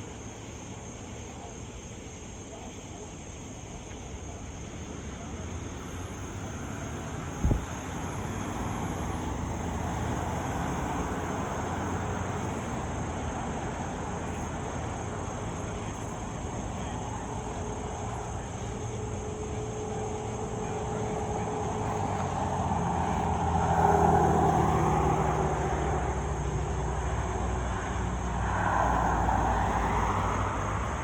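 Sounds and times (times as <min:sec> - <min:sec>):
highway traffic: 0:00.0 - 0:31.0
vehicle approaching: 0:04.6 - 0:31.0.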